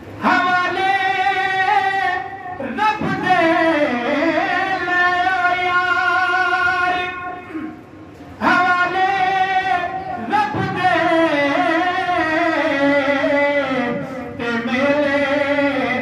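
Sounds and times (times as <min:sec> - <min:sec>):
man singing into microphone: 0:00.2 - 0:07.7, 0:08.4 - 0:16.0.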